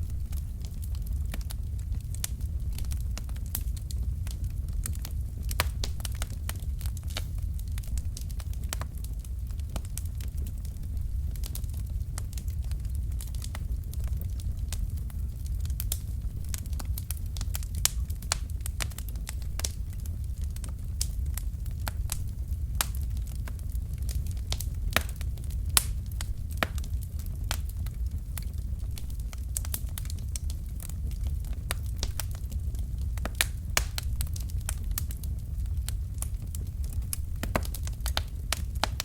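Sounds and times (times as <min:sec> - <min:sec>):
flames rumbling: 0:00.0 - 0:39.0
logs crackling and popping: 0:00.0 - 0:39.0.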